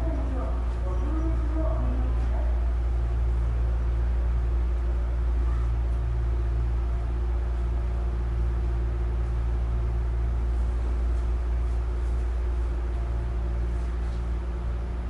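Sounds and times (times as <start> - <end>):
constant tone: 0.0 - 15.0
train car hum and rumble: 0.0 - 15.0.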